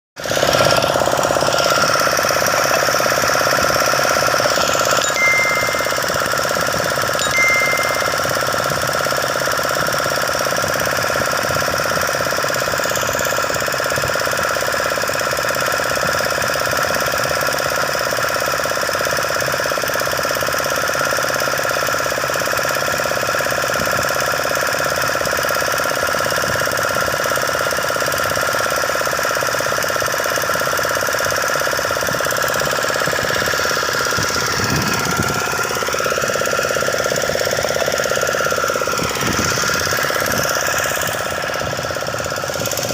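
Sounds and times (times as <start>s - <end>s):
engine running with knocking: 0.2s - 42.9s.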